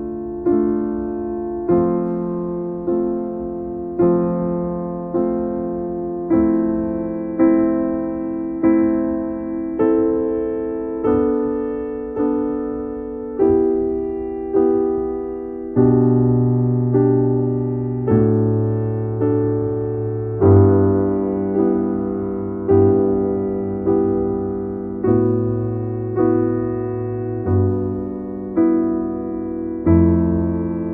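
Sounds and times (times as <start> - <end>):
slow piano chords: 0.0 - 30.9.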